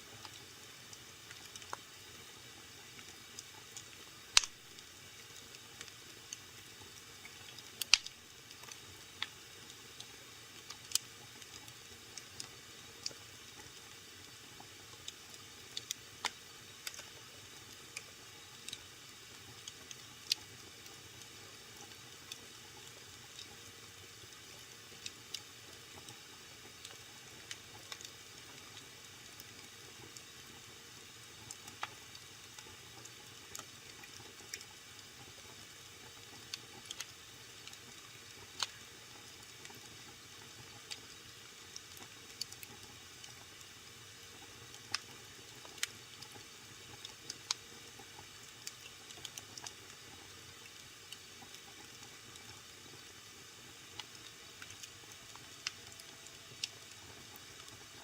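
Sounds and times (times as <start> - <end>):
wood fire hissing: 0.0 - 58.0
fire crackling and popping: 0.2 - 58.0.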